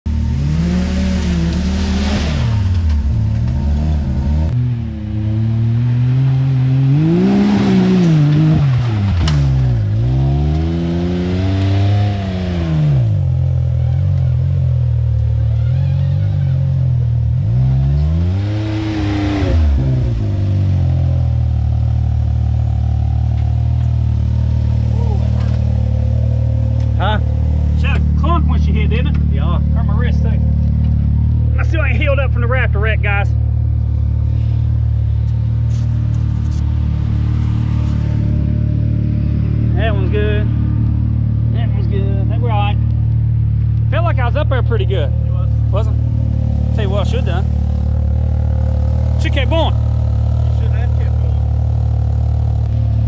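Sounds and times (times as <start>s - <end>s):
off-road vehicle engine revving: 0.1s - 53.0s.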